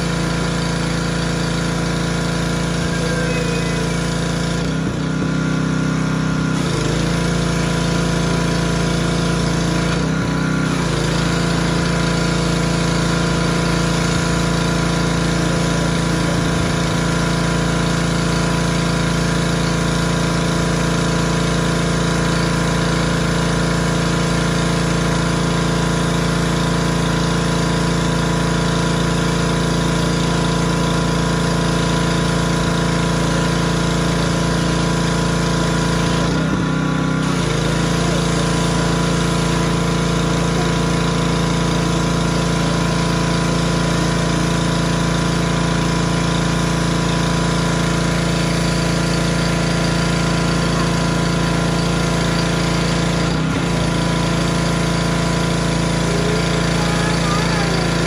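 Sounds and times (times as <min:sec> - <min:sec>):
pressure washer engine running: 0:00.0 - 0:58.0
water spraying onto concrete: 0:00.0 - 0:58.0.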